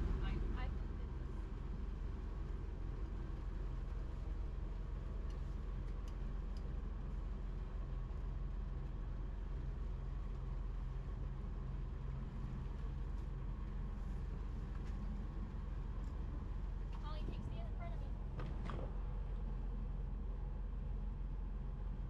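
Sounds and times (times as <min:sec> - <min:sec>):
boat diesel engine droning: 0:00.0 - 0:22.0.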